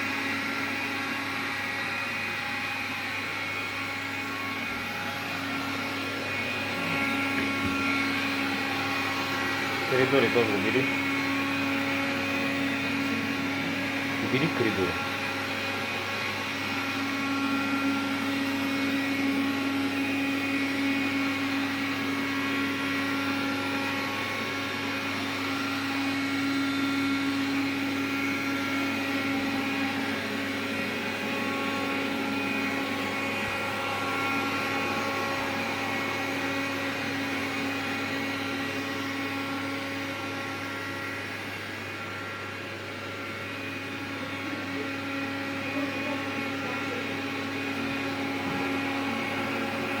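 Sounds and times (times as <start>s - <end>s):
vacuum cleaner hum and whine: 0.0s - 50.0s.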